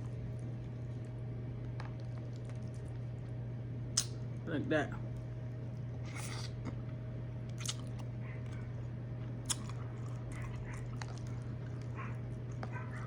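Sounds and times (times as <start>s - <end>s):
chewing and lip smacking: 0.0s - 4.4s, 5.1s - 13.0s
low electrical hum: 0.0s - 13.0s.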